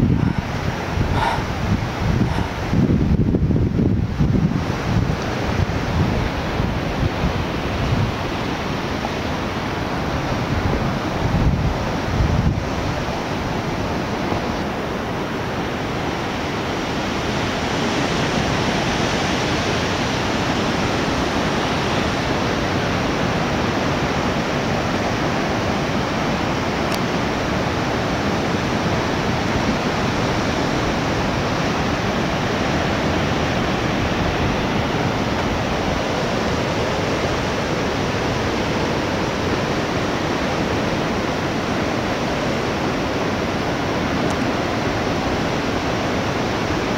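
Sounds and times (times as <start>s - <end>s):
ocean surf breaking on rocks: 0.0s - 46.9s.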